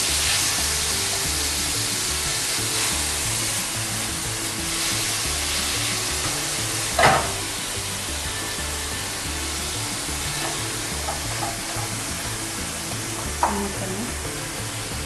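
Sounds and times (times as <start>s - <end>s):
meat sizzling in a frying pan: 0.0s - 15.0s
soft background music: 0.0s - 15.0s.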